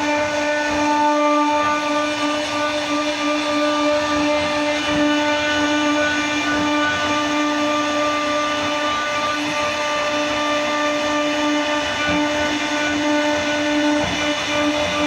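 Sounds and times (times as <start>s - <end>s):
router spindle whine: 0.0s - 15.0s.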